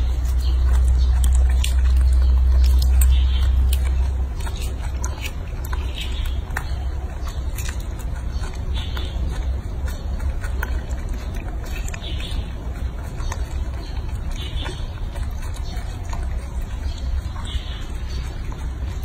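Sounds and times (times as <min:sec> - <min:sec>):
monkey chewing fruit: 0:00.0 - 0:19.0.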